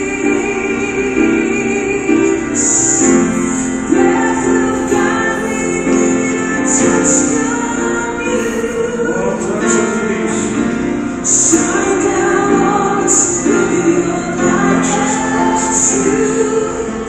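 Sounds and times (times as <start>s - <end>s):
choir singing: 0.0s - 17.0s
group singing gospel chorus: 0.0s - 17.0s
keyboard accompaniment: 0.0s - 17.0s.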